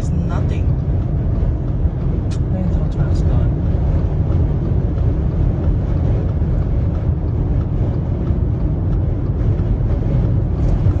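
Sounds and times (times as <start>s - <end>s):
strong wind buffeting a car: 0.0s - 11.0s.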